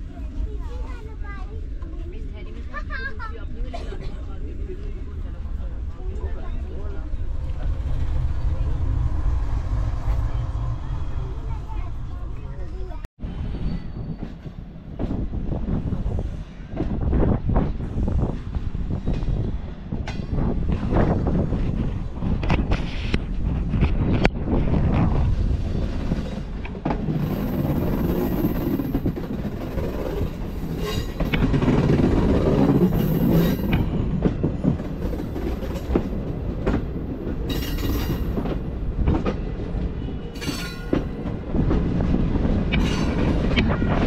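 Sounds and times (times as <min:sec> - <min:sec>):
train rumbling on rails: 0:00.0 - 0:44.0.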